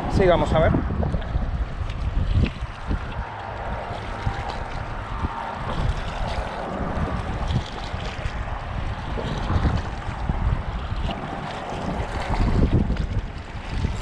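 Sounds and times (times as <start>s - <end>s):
wind buffeting microphone: 0.0s - 14.0s
waves lapping against rocks: 0.1s - 14.0s.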